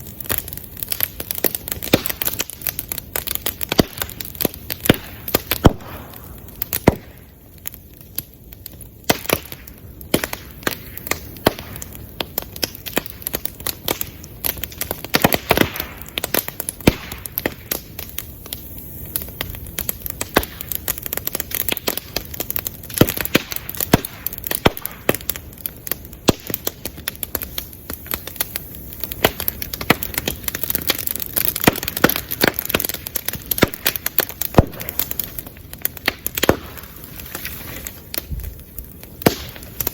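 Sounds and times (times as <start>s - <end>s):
bamboo popping in fire: 0.0s - 39.9s
bonfire crackling: 0.0s - 39.9s.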